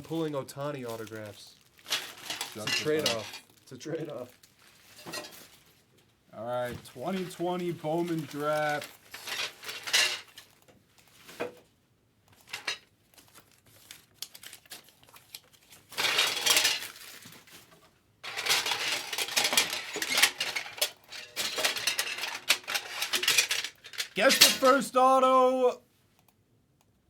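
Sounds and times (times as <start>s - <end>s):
plastic wrap and cardboard rustling: 0.0s - 25.7s.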